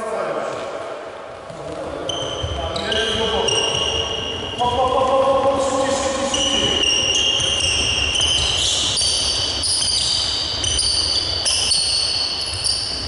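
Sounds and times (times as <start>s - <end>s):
sneakers squeaking on gym floor: 1.4s - 13.0s.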